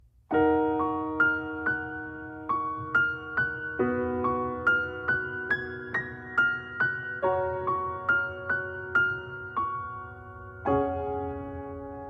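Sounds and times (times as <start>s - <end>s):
slow soft piano melody: 0.0s - 12.0s.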